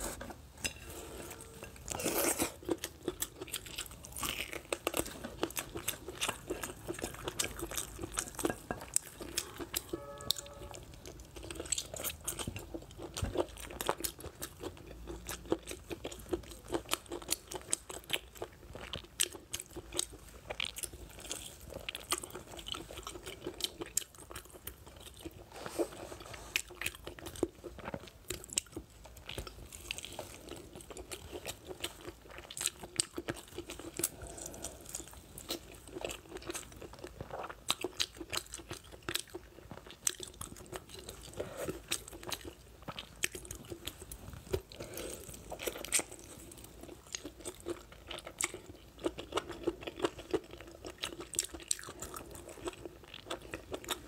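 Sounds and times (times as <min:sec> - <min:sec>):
person chewing meat: 0:00.9 - 0:54.0.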